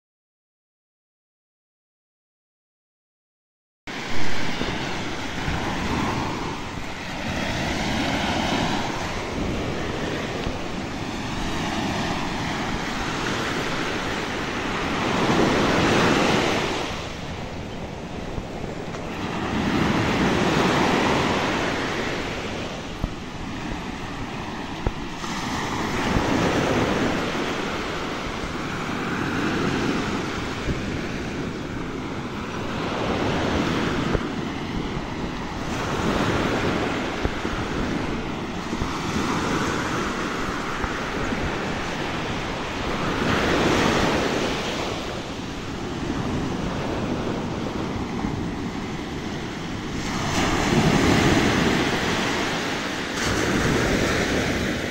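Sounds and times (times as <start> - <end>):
small surf breaking on beach: 3.9 - 17.6, 18.5 - 54.9
wind buffeting microphone: 3.9 - 54.9.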